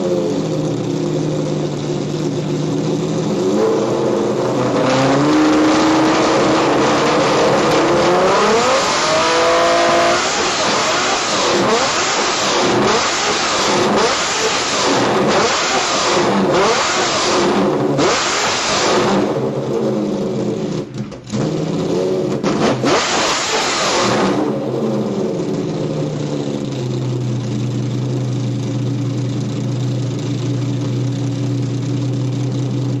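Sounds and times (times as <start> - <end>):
car engine revving and idling: 0.0 - 33.0.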